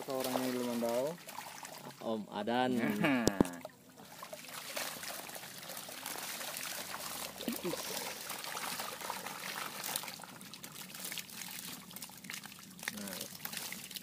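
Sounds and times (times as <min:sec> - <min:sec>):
small fish splashing: 0:00.0 - 0:02.0, 0:03.2 - 0:14.0
water sloshing and trickling: 0:00.0 - 0:14.0.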